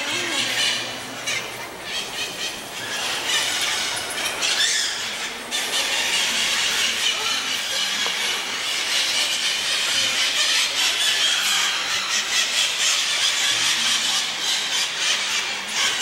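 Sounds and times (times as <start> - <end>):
birds screeching in a cave: 0.0 - 16.0.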